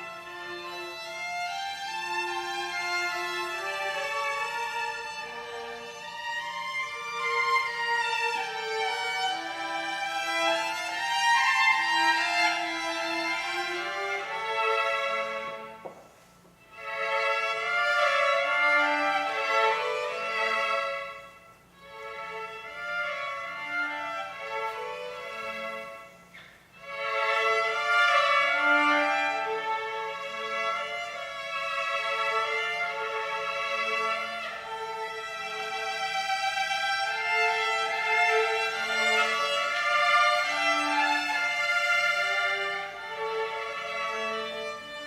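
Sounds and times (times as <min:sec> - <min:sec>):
violin playing long notes: 0:00.0 - 0:16.0, 0:16.6 - 0:45.0.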